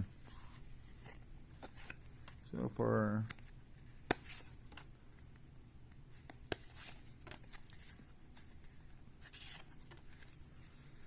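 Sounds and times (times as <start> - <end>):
cards sliding and ticking: 0.2 - 2.4, 3.1 - 11.0.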